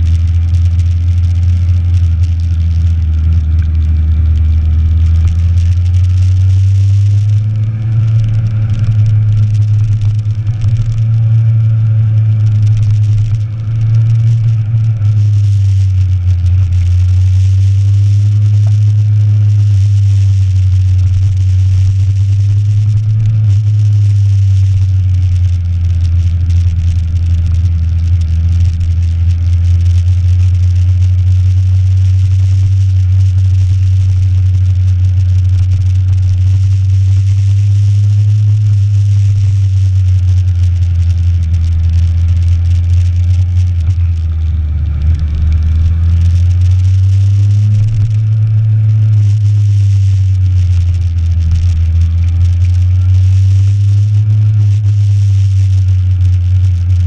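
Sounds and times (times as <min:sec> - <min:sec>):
motorcycle engine humming: 0:00.0 - 0:57.0
noise: 0:00.0 - 0:57.0.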